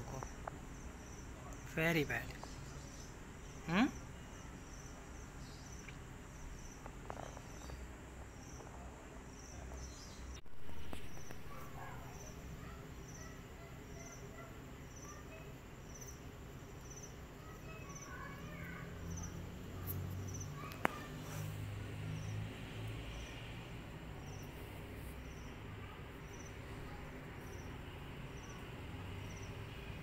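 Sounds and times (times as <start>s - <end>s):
cricket chirping: 0.0s - 30.0s.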